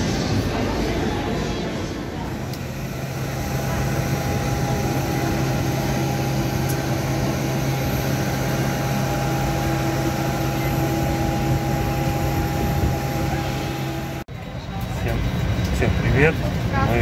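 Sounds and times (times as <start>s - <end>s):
jet airliner machine hum: 0.0s - 17.0s.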